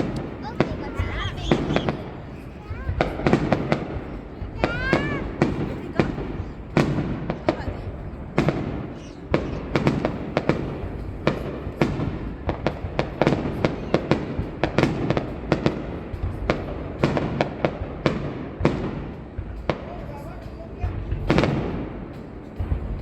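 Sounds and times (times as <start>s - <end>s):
fireworks bangs: 0.0s - 20.0s
low rumble of fireworks: 0.0s - 23.0s.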